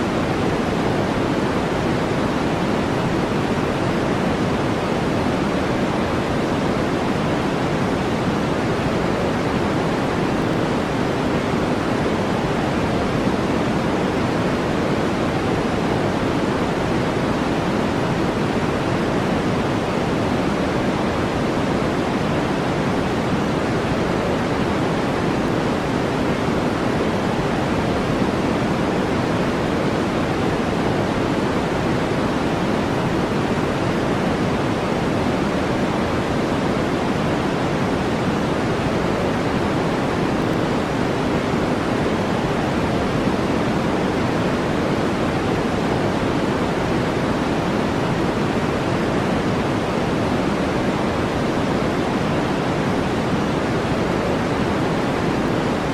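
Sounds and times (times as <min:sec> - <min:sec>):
brown noise hiss: 0:00.0 - 0:55.9.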